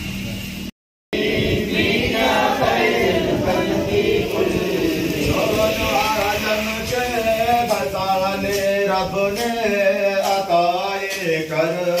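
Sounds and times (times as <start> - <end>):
men singing in chorus: 1.2 - 12.0.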